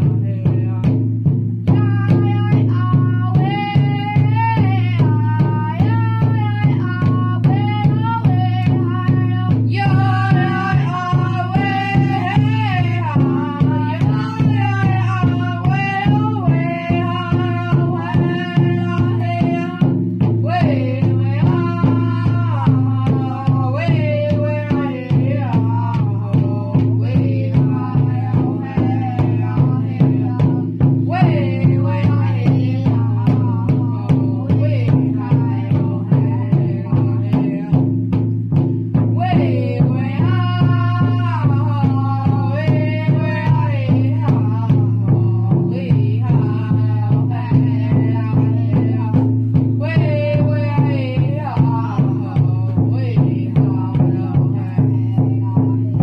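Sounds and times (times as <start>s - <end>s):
fast even drumbeat: 0.0s - 56.0s
people singing: 0.0s - 56.0s.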